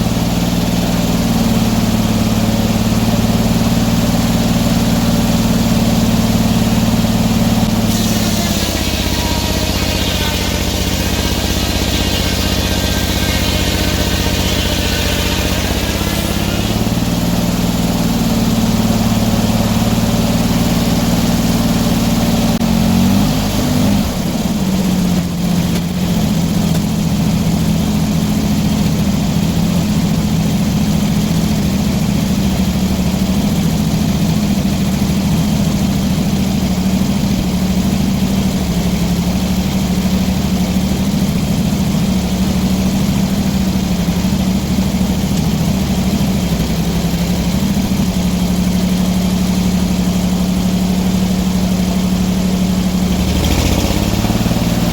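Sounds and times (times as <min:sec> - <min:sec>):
high whine: 0:00.0 - 0:54.9
sawmill engine running: 0:00.0 - 0:54.9.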